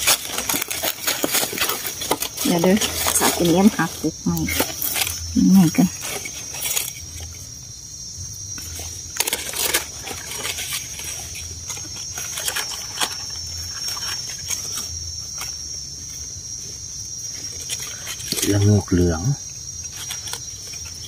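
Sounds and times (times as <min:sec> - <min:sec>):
hands rustling dry leaves: 0:00.0 - 0:07.6, 0:08.3 - 0:19.1
high insect drone: 0:00.0 - 0:21.0.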